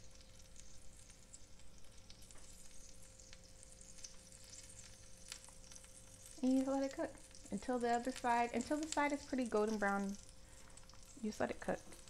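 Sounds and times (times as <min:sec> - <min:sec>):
sandwich sizzling in a pan: 0:00.0 - 0:12.0.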